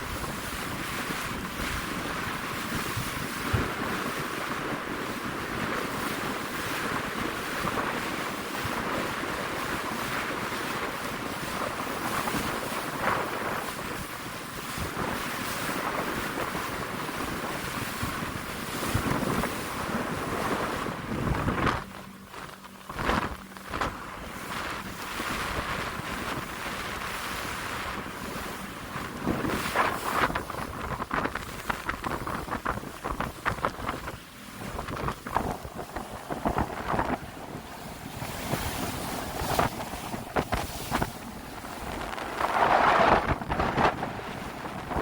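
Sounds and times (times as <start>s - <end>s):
surf rushing: 0.0s - 45.0s
wind buffeting microphone: 0.0s - 45.0s.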